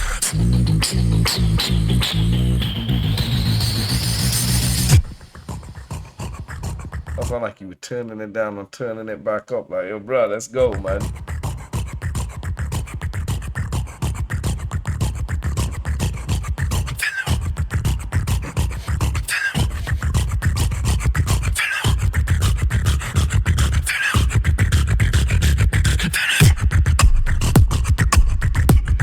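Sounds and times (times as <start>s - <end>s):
beatboxing: 0.0s - 7.6s, 10.5s - 29.0s.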